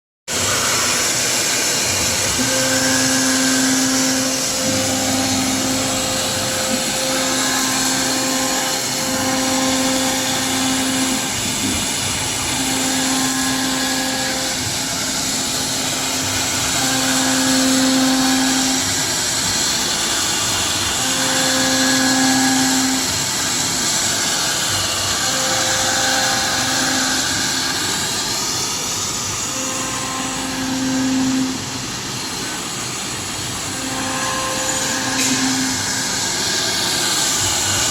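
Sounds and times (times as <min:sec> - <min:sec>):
router bit rushing noise: 0:00.3 - 0:37.9.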